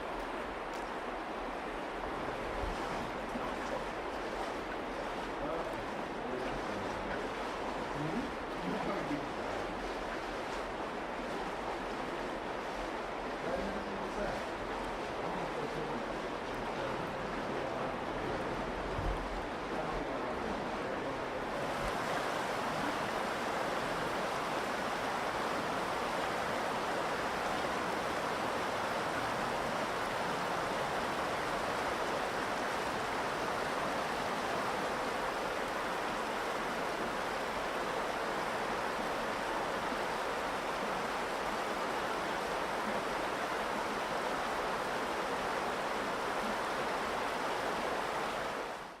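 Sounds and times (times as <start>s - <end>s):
river rushing over rocks: 0.0s - 49.0s.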